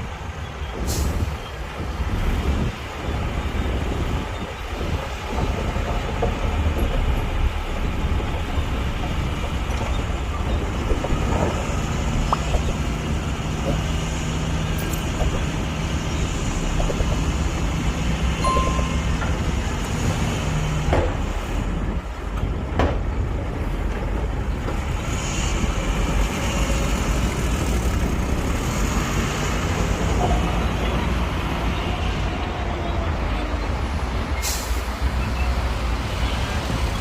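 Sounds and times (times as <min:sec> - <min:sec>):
heavy diesel engines rumbling: 0:00.0 - 0:37.0.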